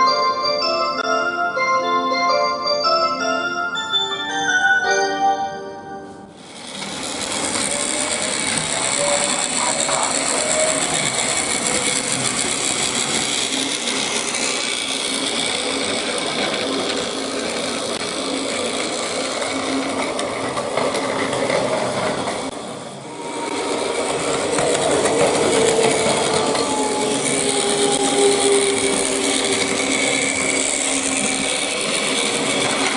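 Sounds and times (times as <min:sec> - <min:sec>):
toy train motor whirring: 0:06.4 - 0:32.9.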